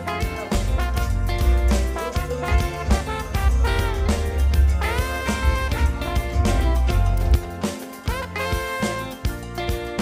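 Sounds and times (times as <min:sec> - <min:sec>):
swing jazz music with brass: 0:00.0 - 0:10.0.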